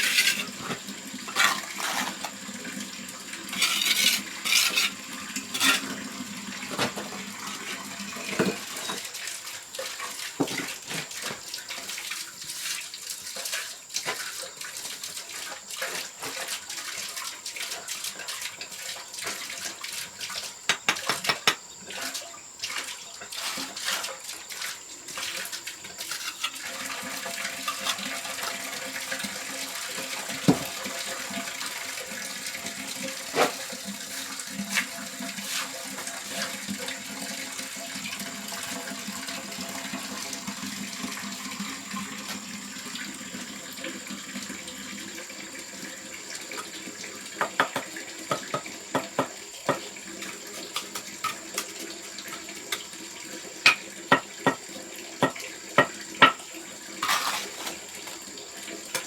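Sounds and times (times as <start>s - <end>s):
water splashing and trickling: 7.6s - 20.6s, 21.8s - 59.0s.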